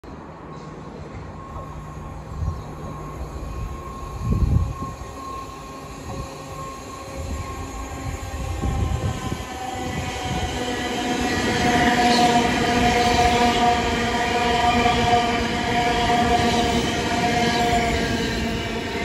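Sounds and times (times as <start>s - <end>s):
electric train approaching: 0.2s - 19.0s
steady whining tones: 1.2s - 19.0s.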